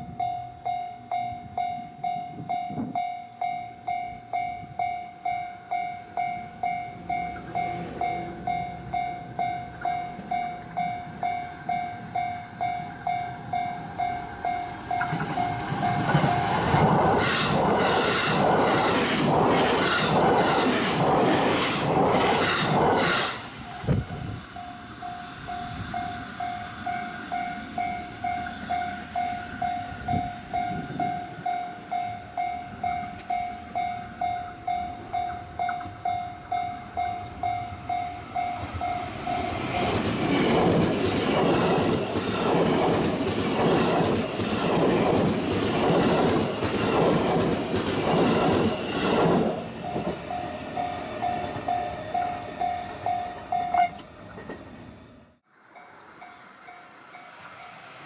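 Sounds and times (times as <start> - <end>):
train wheels clattering: 5.5 - 54.7.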